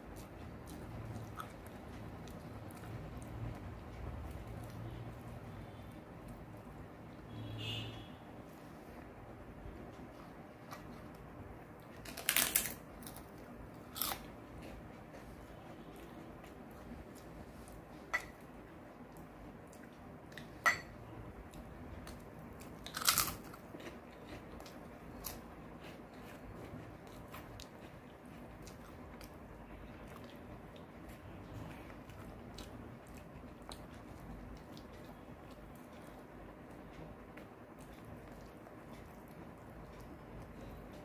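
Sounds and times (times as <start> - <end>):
person chewing food: 0.0 - 6.7, 9.0 - 20.6, 21.4 - 41.0.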